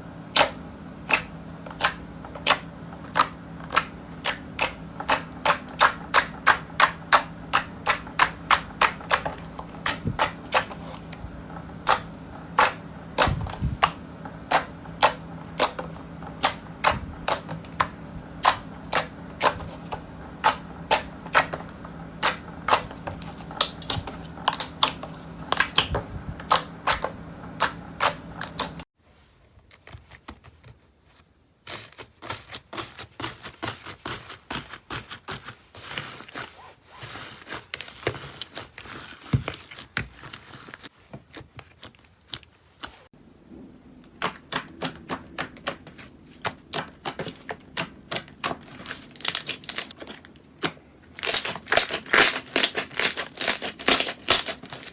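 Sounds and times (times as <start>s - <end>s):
low steady hum: 0.0s - 29.8s, 37.8s - 54.9s.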